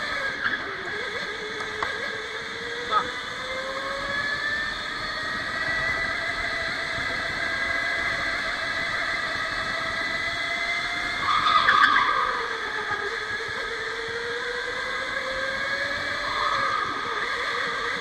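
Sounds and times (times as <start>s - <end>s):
electric go-kart motor whining: 0.0s - 18.0s.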